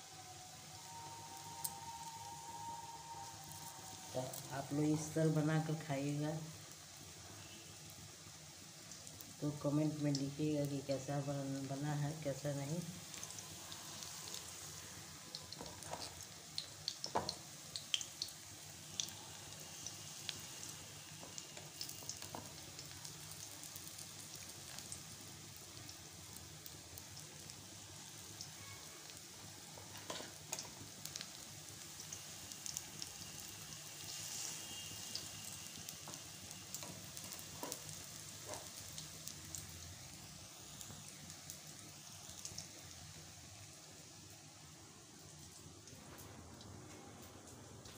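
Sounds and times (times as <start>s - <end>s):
batter deep-frying in oil: 0.0s - 47.9s.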